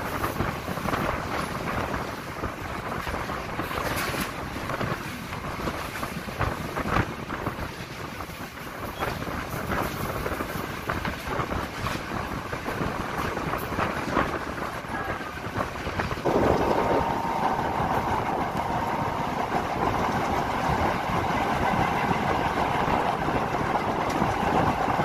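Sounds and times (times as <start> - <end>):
passenger train running: 0.0 - 25.0
wind rushing over microphone: 0.0 - 25.0.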